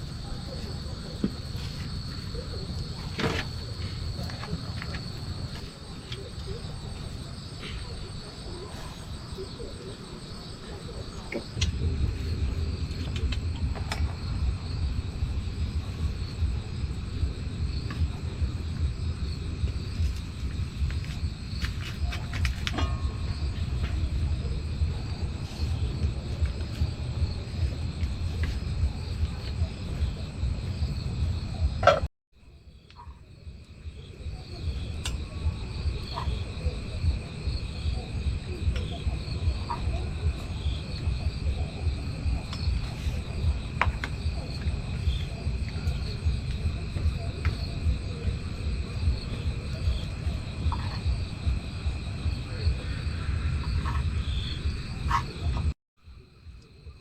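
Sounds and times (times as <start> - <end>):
crickets trilling: 0.0 - 57.0
insects chirring: 0.0 - 57.0.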